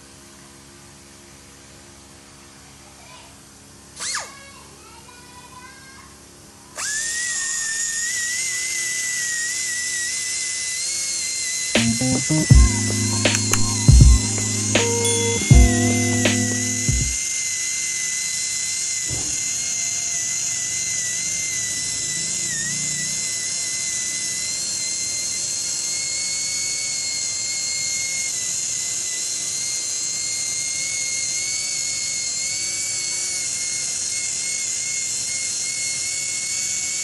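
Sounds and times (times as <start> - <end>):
high-pitched rotary tool whine: 4.0 - 4.4, 6.6 - 37.0.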